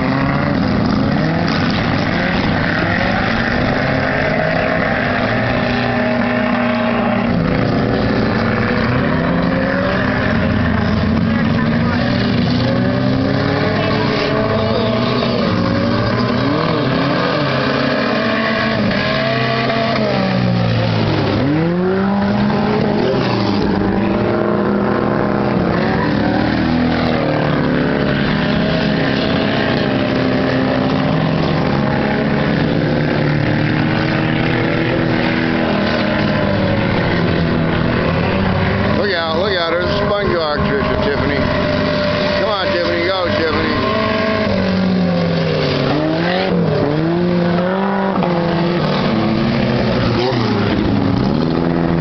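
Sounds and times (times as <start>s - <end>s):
race car engines revving: 0.0s - 52.0s.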